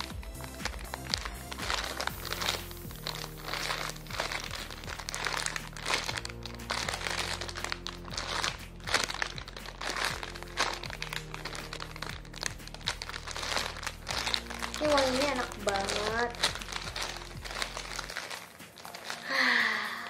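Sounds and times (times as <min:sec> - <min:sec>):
background music with low notes: 0:00.0 - 0:20.0
plastic bag crinkling: 0:00.0 - 0:20.0.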